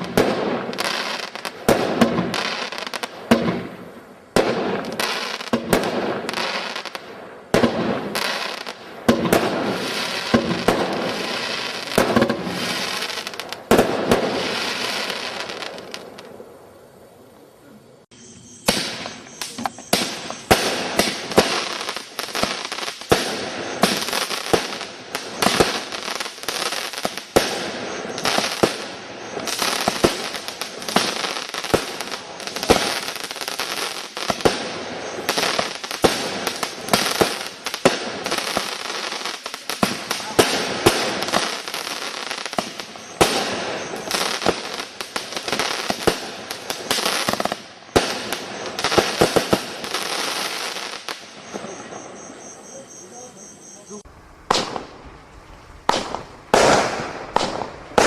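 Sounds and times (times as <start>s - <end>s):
fireworks bangs: 0.0s - 17.6s, 18.6s - 58.0s
fireworks crackling hiss: 0.0s - 58.0s.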